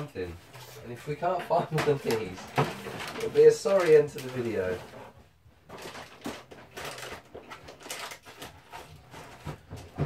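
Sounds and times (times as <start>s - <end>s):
rummaging through boxes: 0.0s - 10.0s.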